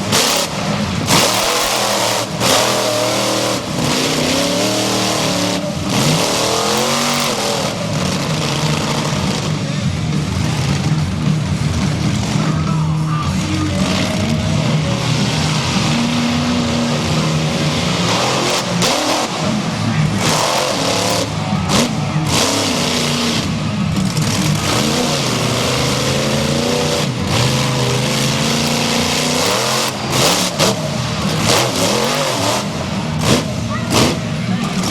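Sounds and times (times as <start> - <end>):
monster truck engine revving: 0.0 - 34.9.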